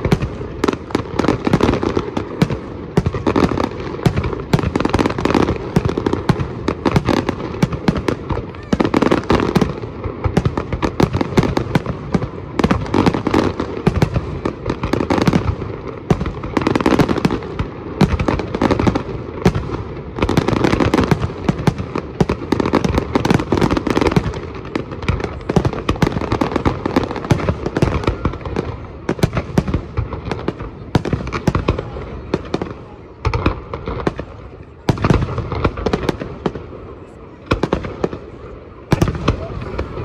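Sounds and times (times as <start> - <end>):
fireworks bangs and pops: 0.0 - 40.0.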